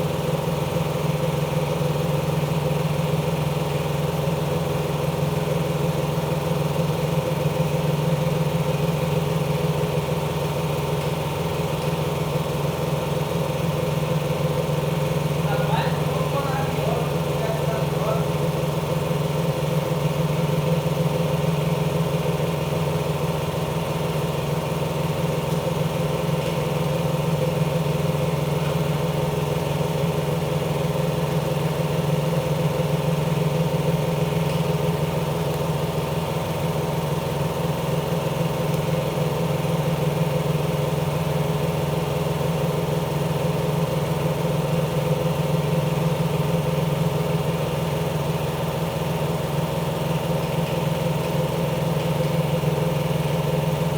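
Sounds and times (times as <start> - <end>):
motor running steadily: 0.0 - 53.9.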